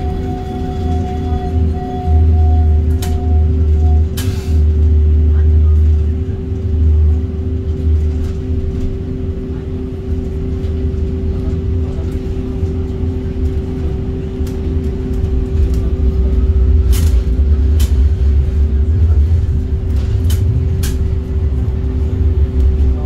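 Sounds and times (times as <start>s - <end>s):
tram rumbling on track: 0.0s - 23.0s.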